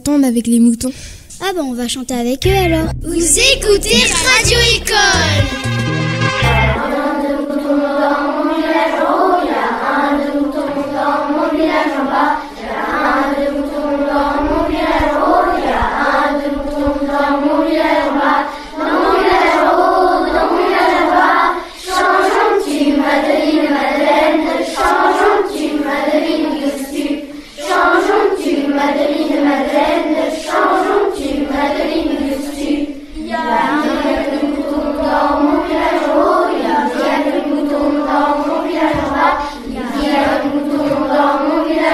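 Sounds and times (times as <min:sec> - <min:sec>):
children singing in unison: 0:03.9 - 0:41.9.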